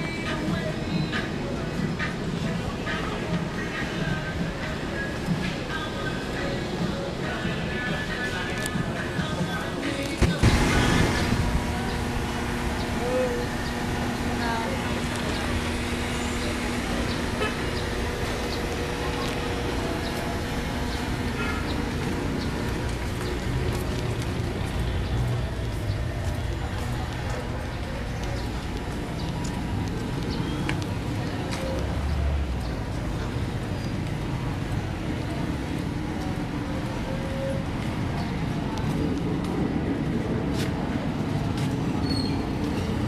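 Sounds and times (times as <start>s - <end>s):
vehicle engines and road noise: 0.0s - 43.0s.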